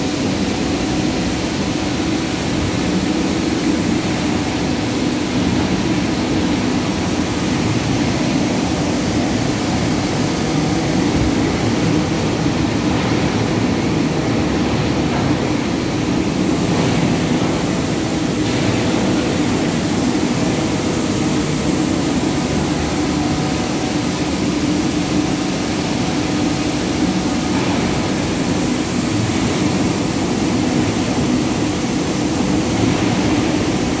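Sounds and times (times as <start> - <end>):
faint constant hum: 0.0 - 34.0
industrial machinery din: 1.0 - 34.0.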